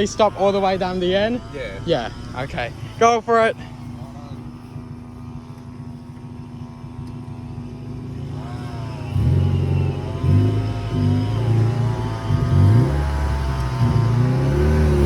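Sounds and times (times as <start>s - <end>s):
car engine idling: 0.0s - 15.0s
car engine revving: 0.0s - 15.0s.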